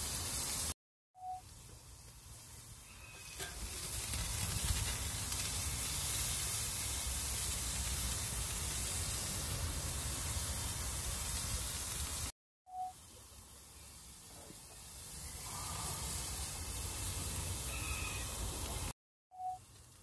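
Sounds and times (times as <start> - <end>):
steaks sizzling: 0.0 - 0.8, 1.5 - 12.3, 13.0 - 19.0.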